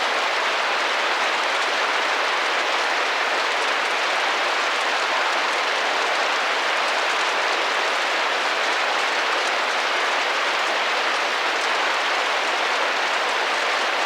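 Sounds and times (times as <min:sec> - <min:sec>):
rain pattering on window: 0:00.1 - 0:14.0.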